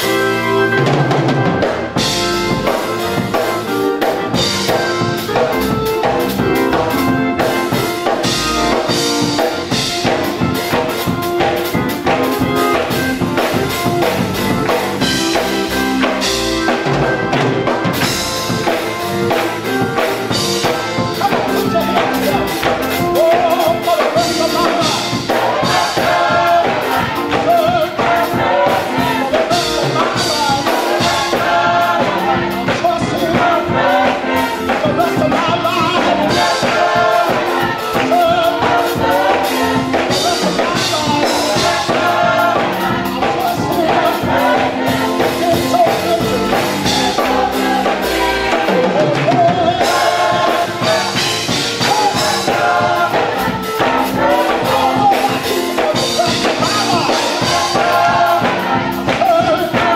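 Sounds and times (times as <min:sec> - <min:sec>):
choir singing: 0:00.0 - 0:59.9
church band playing gospel music: 0:00.0 - 0:59.9
drum kit beat: 0:00.0 - 0:59.9.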